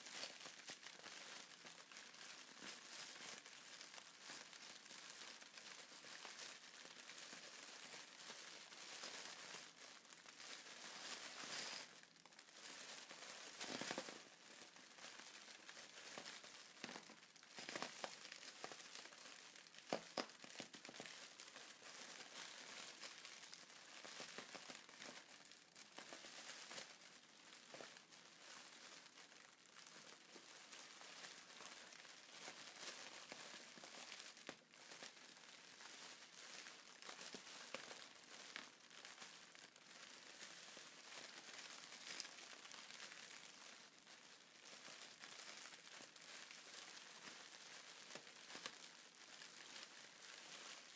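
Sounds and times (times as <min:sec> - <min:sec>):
plastic packaging crinkling: 0:00.0 - 0:50.9.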